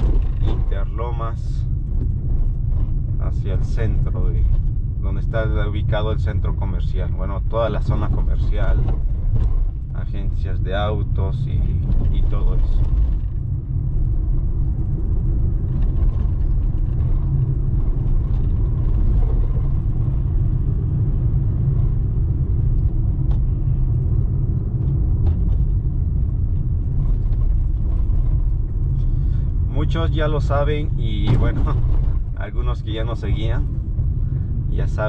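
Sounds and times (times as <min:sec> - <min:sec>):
car driving interior rumble: 0:00.0 - 0:35.0.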